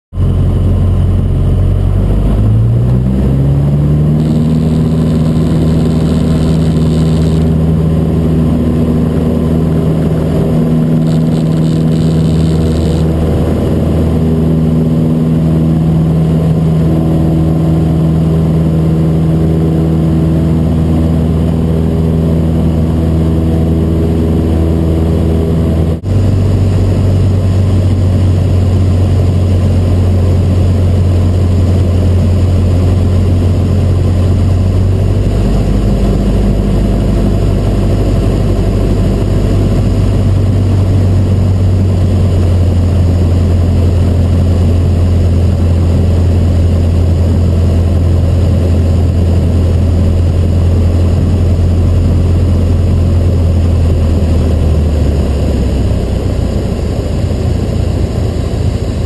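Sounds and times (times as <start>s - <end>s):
light aircraft engine and propeller: 0.1s - 59.0s.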